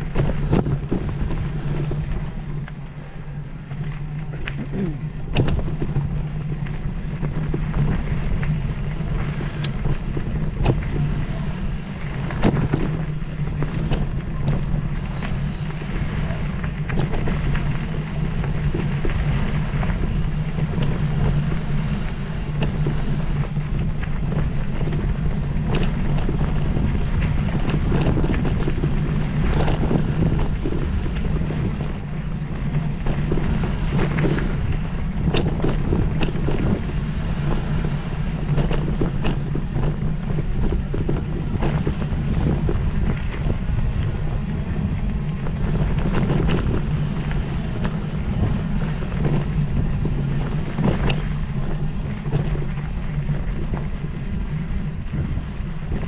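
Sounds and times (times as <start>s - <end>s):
steady low hum: 0.0s - 56.0s
wind buffeting microphone: 0.0s - 56.0s.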